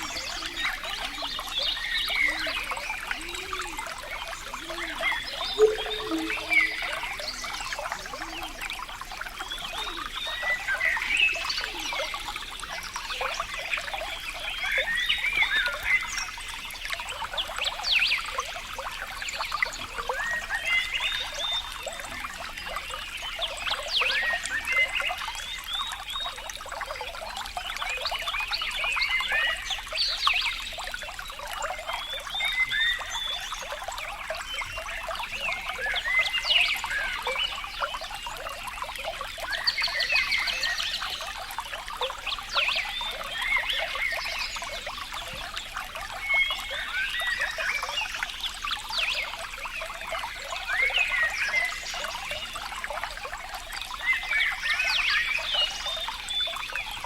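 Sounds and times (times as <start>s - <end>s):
water trickling and bubbling: 0.0s - 57.0s.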